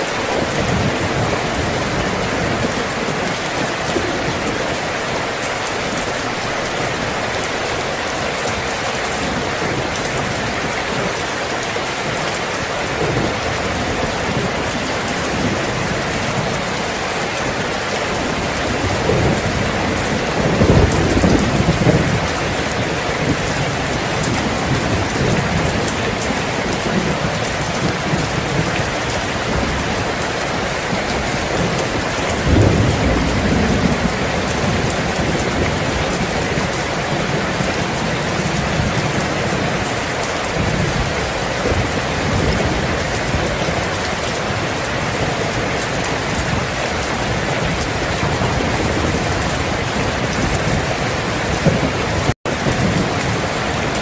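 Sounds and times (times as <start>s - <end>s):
steady rain: 0.0s - 54.0s
thunder rumbling: 0.0s - 54.0s.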